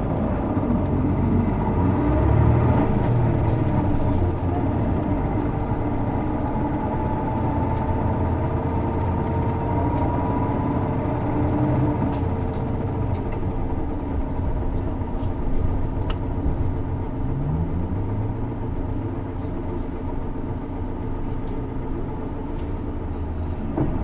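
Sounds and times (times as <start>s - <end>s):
bus diesel engine under load: 0.0s - 24.0s.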